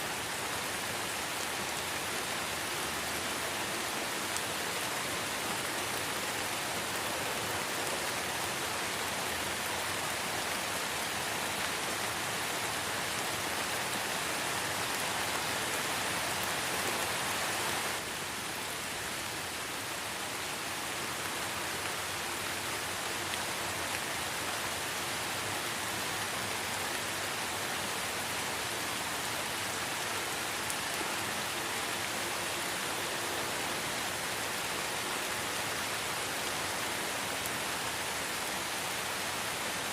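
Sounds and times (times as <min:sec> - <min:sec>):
light rain falling in forest: 0:00.0 - 0:39.9.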